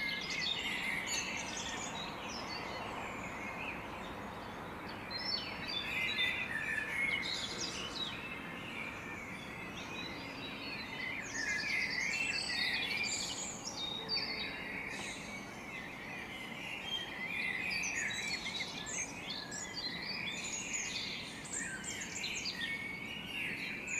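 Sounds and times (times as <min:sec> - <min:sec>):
blackbirds chirping and singing: 0:00.0 - 0:23.9.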